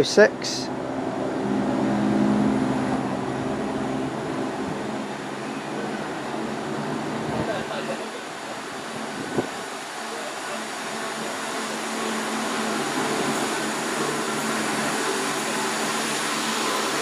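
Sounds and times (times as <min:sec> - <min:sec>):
diesel train engines droning: 0:00.0 - 0:17.0.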